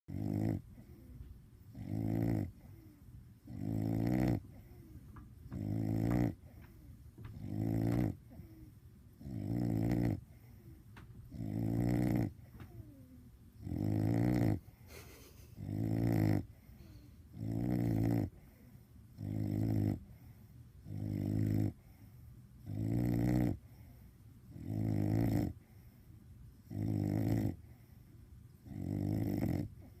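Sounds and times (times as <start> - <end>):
dog snoring: 0.1 - 30.0.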